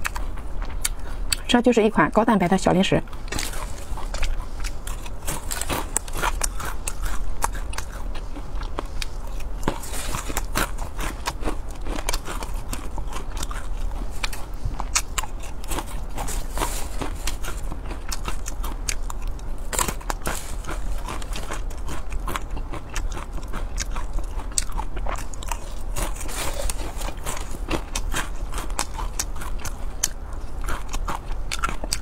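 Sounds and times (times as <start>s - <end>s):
crunchy chewing: 0.0s - 1.5s, 3.0s - 32.0s.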